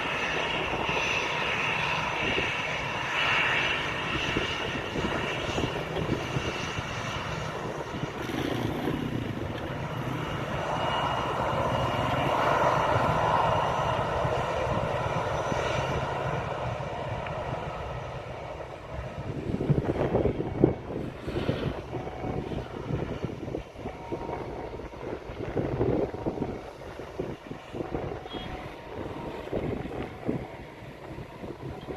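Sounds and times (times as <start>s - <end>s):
jet engines whining and rushing: 0.0s - 31.9s
wind buffeting microphone: 0.0s - 31.9s.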